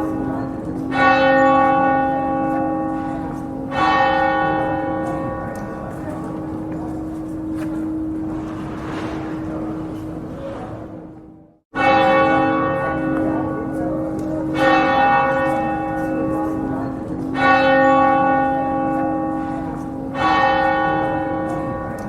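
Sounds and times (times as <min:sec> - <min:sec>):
church bell tolling: 0:00.0 - 0:22.0.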